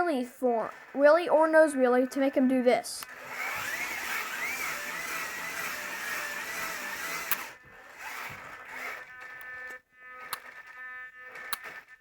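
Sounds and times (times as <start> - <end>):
toy truck electric motors whining: 0.0 - 12.0.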